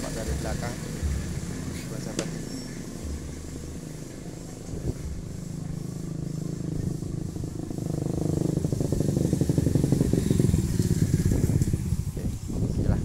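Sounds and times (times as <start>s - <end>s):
truck engine driving off: 0.0s - 12.4s
motorcycle engine approaching: 0.0s - 13.0s.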